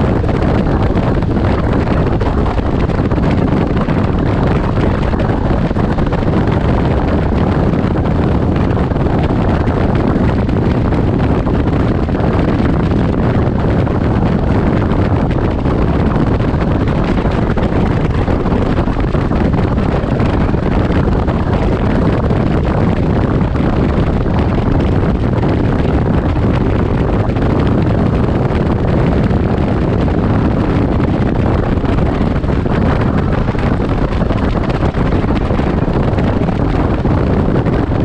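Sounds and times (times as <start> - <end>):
engine running: 0.0 - 38.0
road noise: 0.0 - 38.0
wind buffeting microphone: 0.0 - 38.0.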